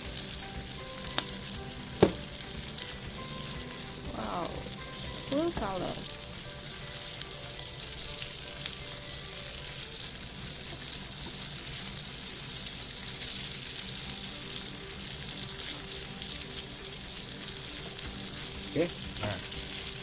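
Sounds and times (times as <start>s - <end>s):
sauce sizzling in a hot pan: 0.0s - 20.0s.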